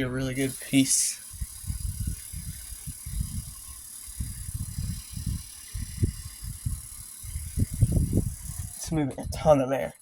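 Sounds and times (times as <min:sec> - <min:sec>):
desk fan airflow buffeting microphone: 0:00.0 - 0:10.0
fan hiss: 0:00.0 - 0:10.0.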